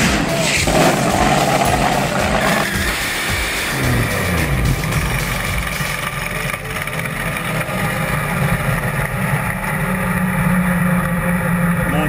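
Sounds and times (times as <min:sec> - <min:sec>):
loud dragster engine: 0:00.0 - 0:12.0.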